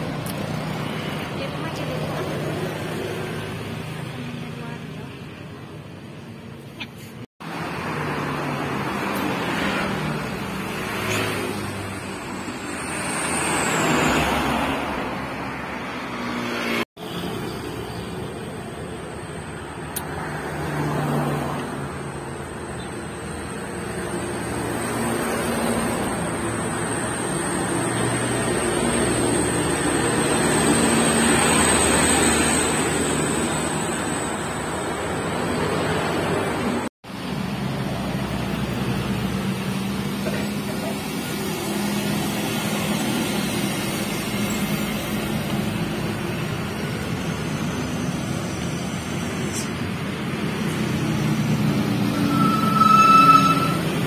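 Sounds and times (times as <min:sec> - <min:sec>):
light traffic noise: 0:00.0 - 0:54.0
motorcycle engines: 0:00.0 - 0:54.0
small truck passing: 0:07.4 - 0:18.2, 0:18.8 - 0:54.0.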